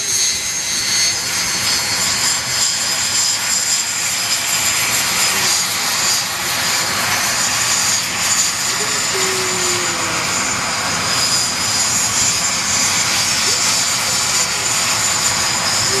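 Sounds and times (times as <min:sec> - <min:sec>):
aircraft engine rushing: 0:00.0 - 0:16.0
faint high whine: 0:00.0 - 0:16.0.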